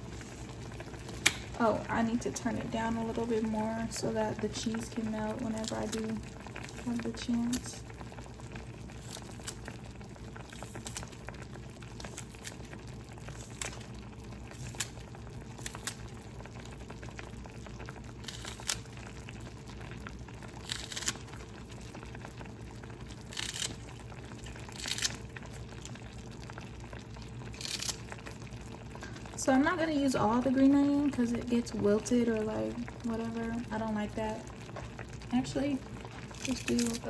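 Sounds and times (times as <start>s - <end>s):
noodles bubbling in a pan: 0.0s - 37.0s.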